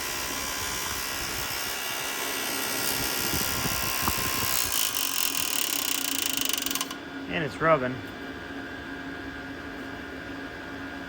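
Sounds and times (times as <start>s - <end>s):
blower fan motor whine: 0.0s - 11.0s.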